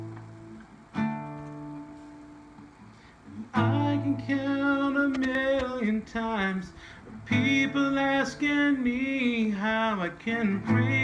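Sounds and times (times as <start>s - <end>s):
acoustic guitar chords strummed: 0.0s - 11.0s.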